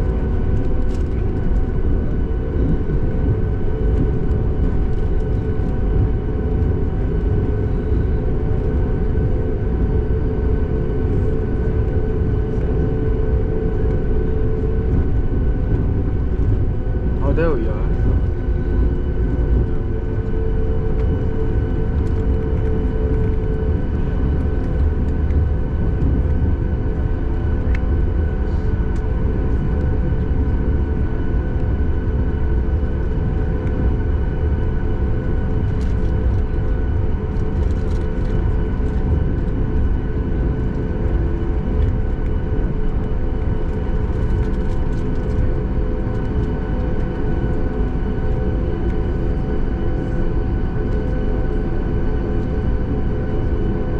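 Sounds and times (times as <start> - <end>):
jet engines humming and whining: 0.0 - 53.9
low cabin rumble: 0.0 - 53.9.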